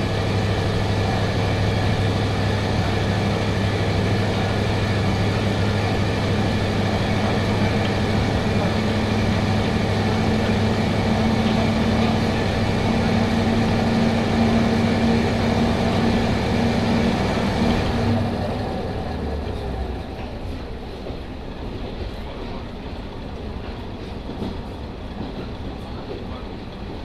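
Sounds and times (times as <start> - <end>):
railcar diesel engine running: 0.0 - 27.0.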